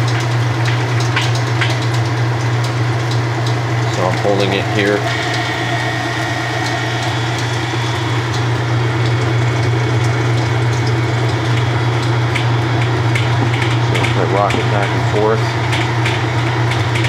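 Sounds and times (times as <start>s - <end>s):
drain pump whirring: 0.0s - 17.0s
washing machine spinning: 0.0s - 17.0s.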